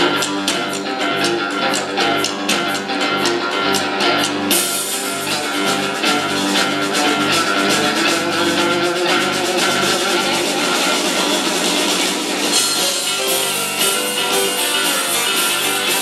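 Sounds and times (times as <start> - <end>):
bass: 0.0 - 16.0
drum kit: 0.0 - 16.0
electric guitar: 0.0 - 16.0.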